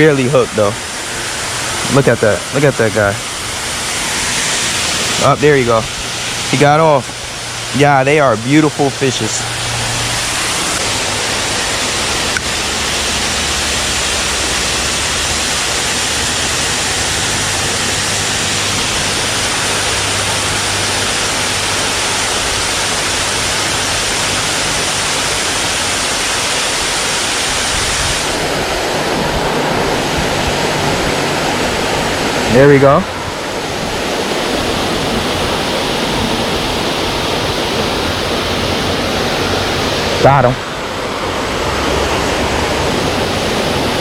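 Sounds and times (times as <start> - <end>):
small waterfall rushing: 0.0 - 44.0.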